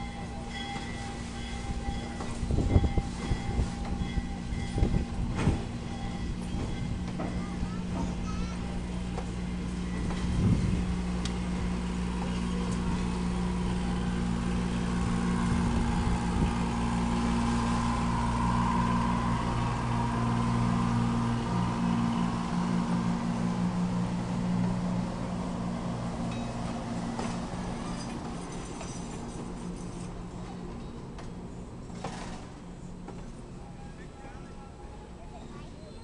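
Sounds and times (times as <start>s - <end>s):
train cars rolling on rails: 0.0s - 36.0s.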